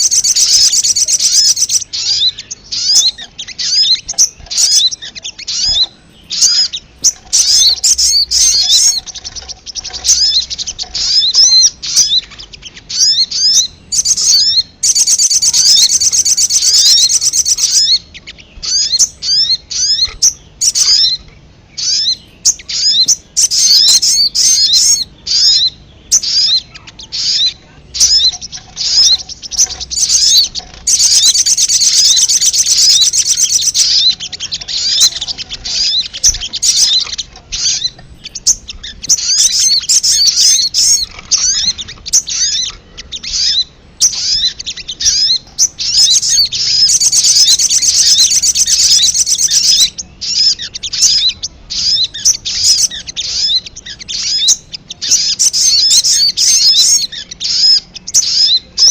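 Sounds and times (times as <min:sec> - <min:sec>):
birds chirping and chattering: 0:00.0 - 0:58.9.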